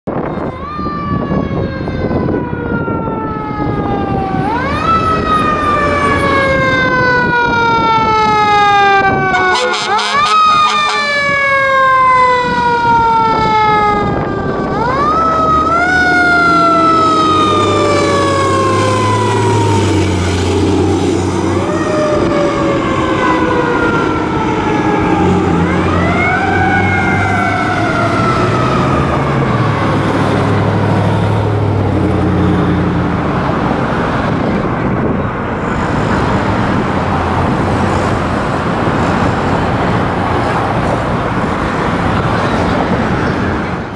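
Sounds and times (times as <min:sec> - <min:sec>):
fire engine siren wailing: 0:00.1 - 0:43.9
traffic noise: 0:00.1 - 0:43.9.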